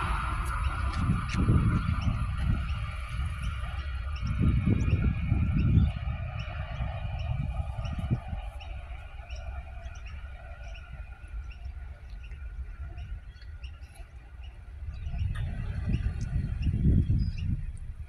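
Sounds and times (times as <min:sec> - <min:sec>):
small birds chirping: 0:00.0 - 0:18.0
train low rumble: 0:00.0 - 0:18.0.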